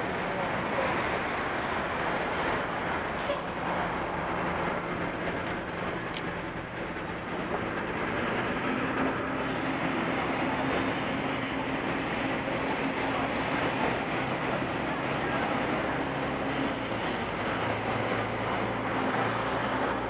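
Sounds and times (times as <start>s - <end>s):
large vehicle idling: 0.0s - 20.0s
street traffic noise: 0.0s - 20.0s.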